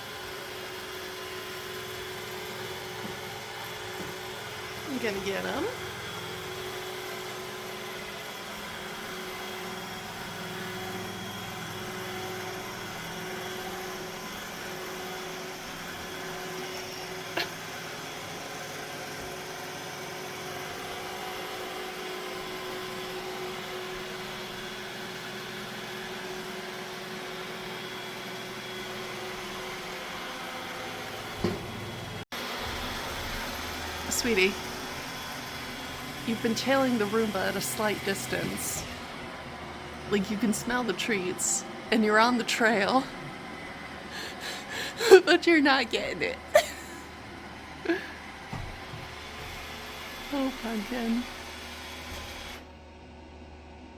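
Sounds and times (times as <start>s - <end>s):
robot vacuum motor hum: 0.1s - 40.1s, 43.1s - 45.3s, 46.3s - 52.8s.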